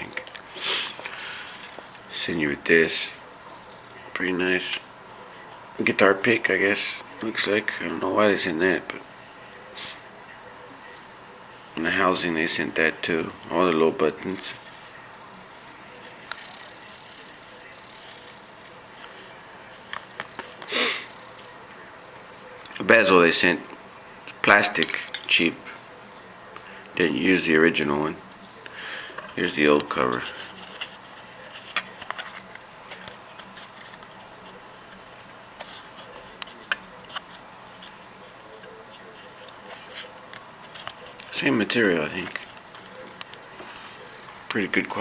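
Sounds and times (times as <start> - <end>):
faint room hum: 0.0 - 45.0.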